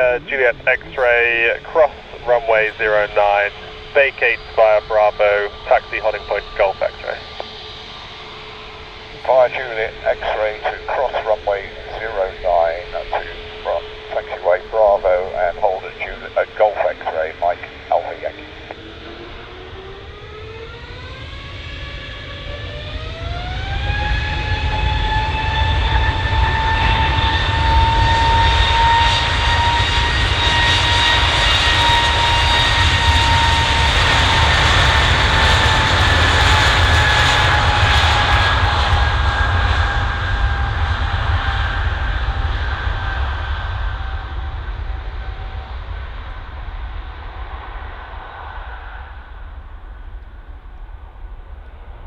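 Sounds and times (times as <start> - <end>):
deep jet engine rumble: 0.0 - 52.0
jet engine fan whine: 0.0 - 52.0.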